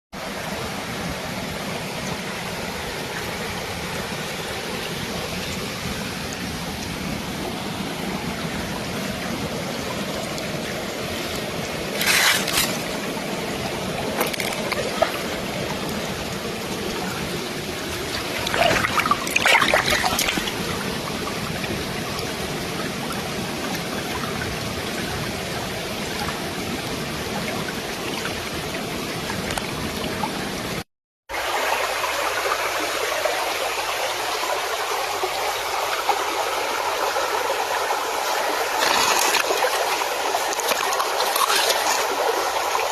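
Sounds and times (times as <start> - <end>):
river water running over rocks: 0.2 - 42.9.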